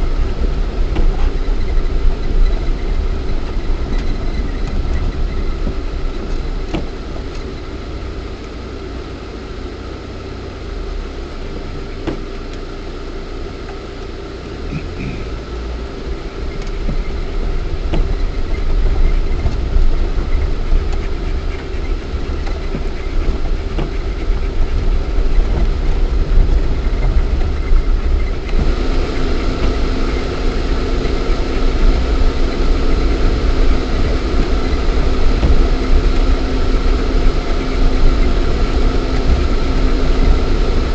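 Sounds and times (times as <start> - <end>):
car engine running offroad: 0.0 - 40.9
road noise in cabin: 0.0 - 40.9
steady whine: 0.0 - 40.9.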